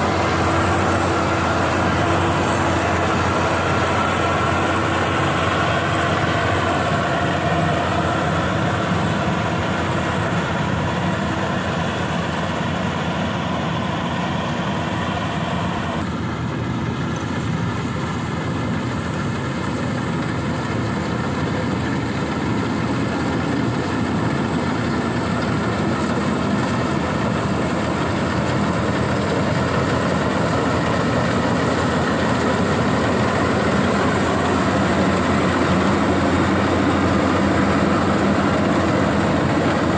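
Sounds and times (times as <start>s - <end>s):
combine harvester running: 0.0s - 39.9s
thin high machine whine: 0.0s - 39.9s.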